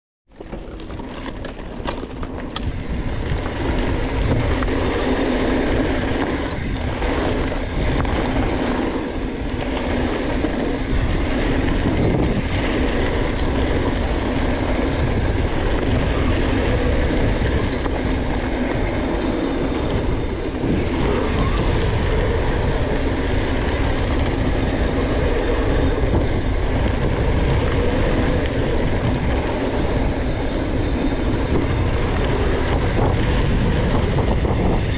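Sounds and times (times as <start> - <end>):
bike tyres rolling over gravel: 0.3 - 34.9
wind rushing over microphone: 2.5 - 34.9.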